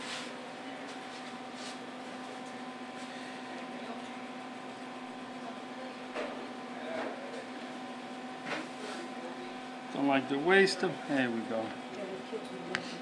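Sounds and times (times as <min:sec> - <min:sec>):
electrical hum of kitchen equipment: 0:00.0 - 0:13.0.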